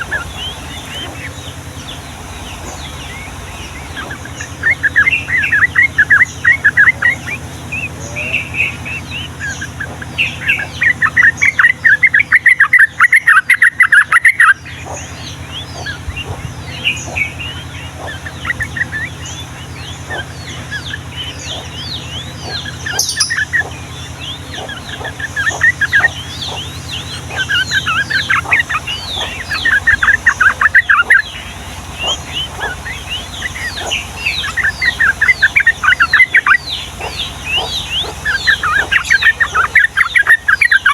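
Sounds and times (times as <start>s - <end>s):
bird chattering song: 0.0s - 40.9s
high downward bird chirps: 0.0s - 40.9s
steady low hum: 0.0s - 40.9s.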